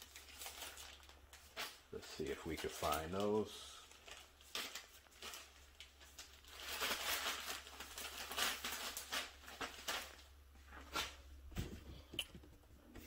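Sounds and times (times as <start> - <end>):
packaging rustling: 0.0 - 11.2.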